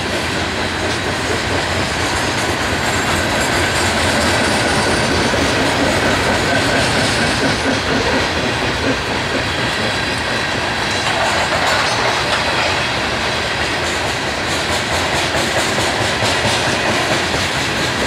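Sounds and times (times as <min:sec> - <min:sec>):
freight train wheels clattering: 0:00.0 - 0:18.0.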